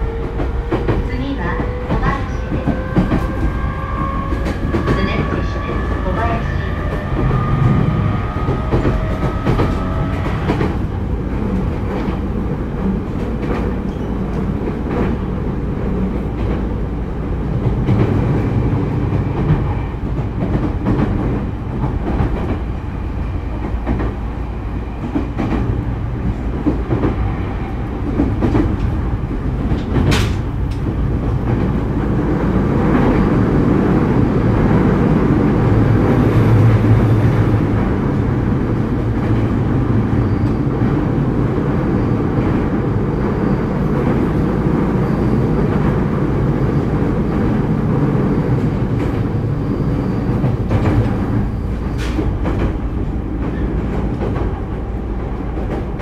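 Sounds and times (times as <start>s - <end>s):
train motors and wheels rumbling: 0.0s - 56.0s
wheels clacking on rails: 0.0s - 56.0s.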